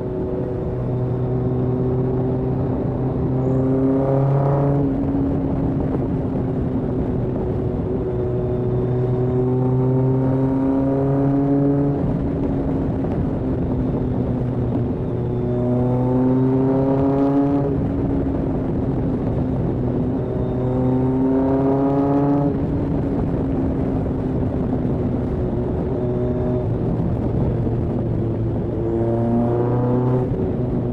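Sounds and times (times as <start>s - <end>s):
motorcycle engine revving: 0.0s - 19.4s, 20.2s - 22.9s, 24.2s - 30.9s
low exhaust drone: 0.0s - 30.9s.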